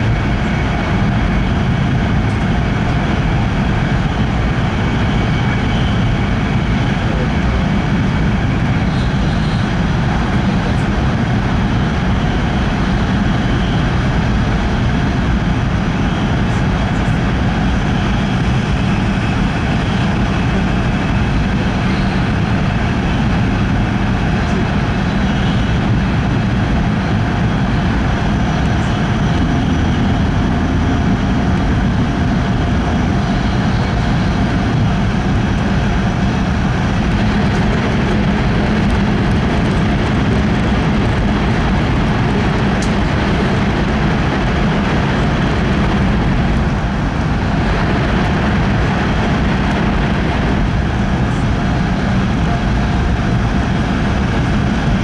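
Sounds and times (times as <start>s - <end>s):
train cabin running rumble: 0.0s - 55.0s.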